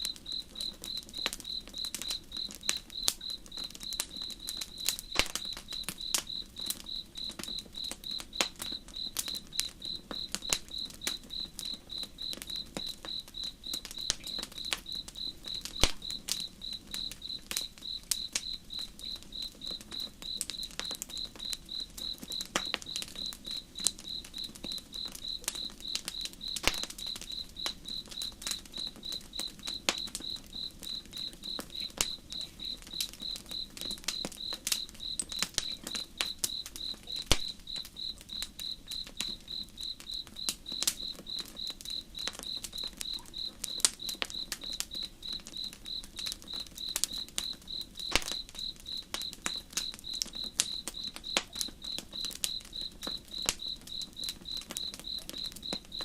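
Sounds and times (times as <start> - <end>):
campfire crackling: 0.0 - 56.0
cricket chirping: 0.0 - 56.0.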